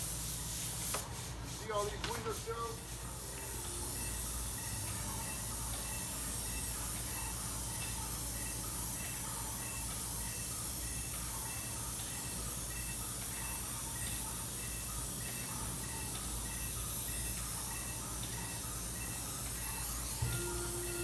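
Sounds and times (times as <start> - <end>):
paint spray gun hissing: 0.0 - 21.0.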